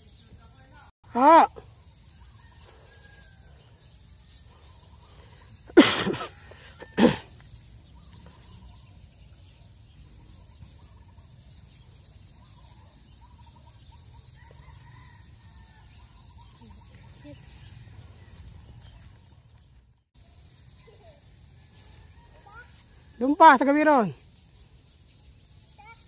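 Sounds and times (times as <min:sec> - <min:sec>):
faint bird chirping: 0:00.0 - 0:26.0.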